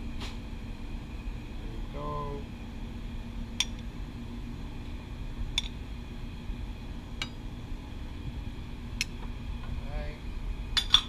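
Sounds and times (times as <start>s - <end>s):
low fan hum: 0.0s - 11.0s.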